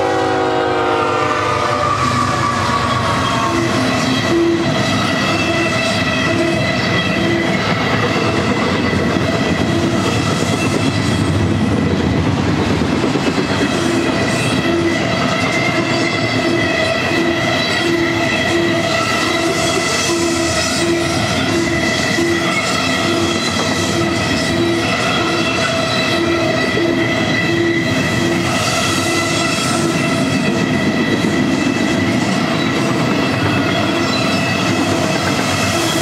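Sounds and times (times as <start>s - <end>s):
freight train wheels rumbling: 0.0s - 36.0s
wheels clickety-clack: 2.8s - 36.0s.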